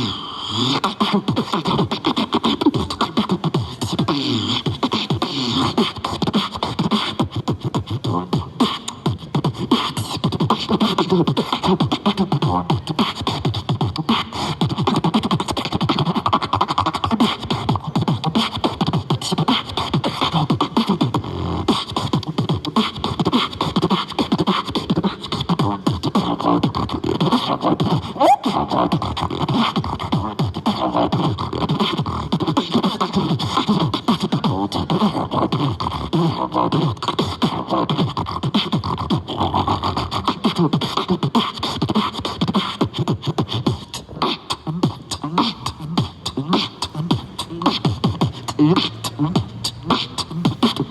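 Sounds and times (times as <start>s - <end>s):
beatboxing: 0.0s - 50.9s.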